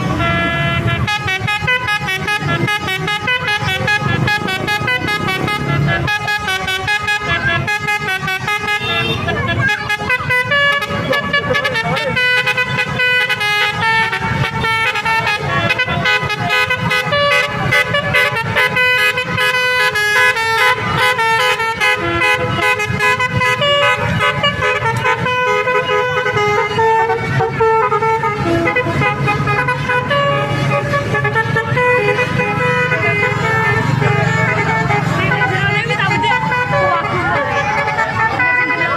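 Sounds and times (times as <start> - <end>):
musical horn playing a tune: 0.0 - 38.9.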